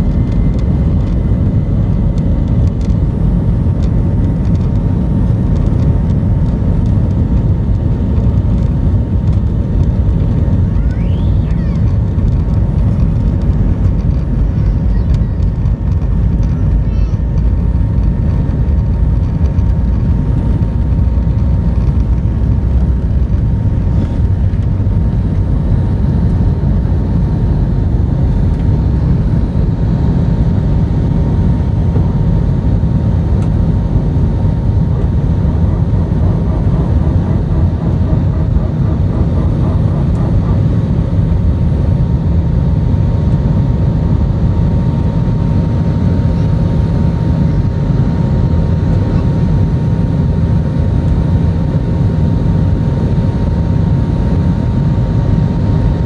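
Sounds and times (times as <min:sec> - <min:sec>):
jet engine rumble: 0:00.0 - 0:56.0
jet engine whine: 0:00.0 - 0:56.0.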